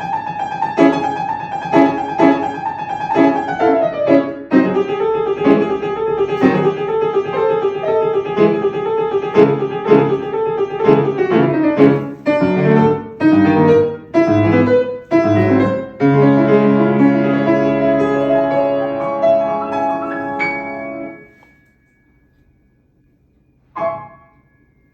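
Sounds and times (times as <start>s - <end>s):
piano piece: 0.0s - 24.9s.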